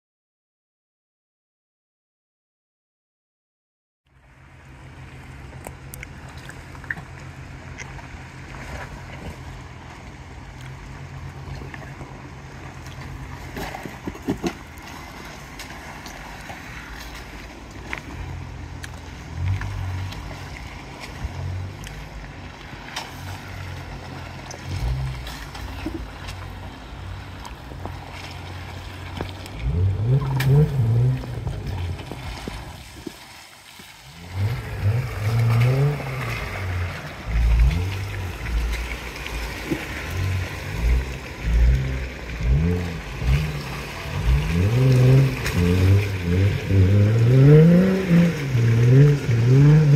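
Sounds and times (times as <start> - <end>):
off-road vehicle engine revving: 4.6 - 32.7, 34.1 - 49.9.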